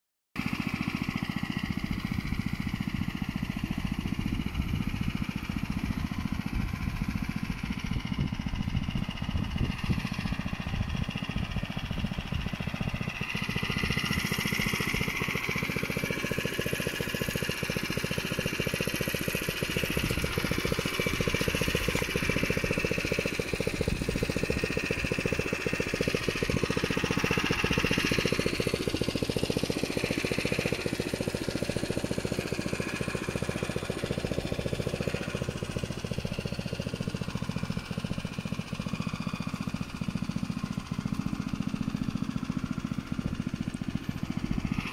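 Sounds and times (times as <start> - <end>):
engine idling: 0.4 - 44.9.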